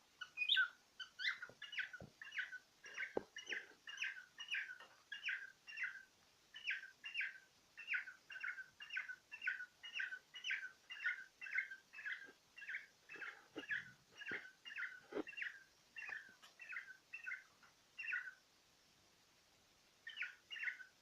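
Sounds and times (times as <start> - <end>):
cockatiel chirping: 0.2 - 18.4, 20.0 - 21.0.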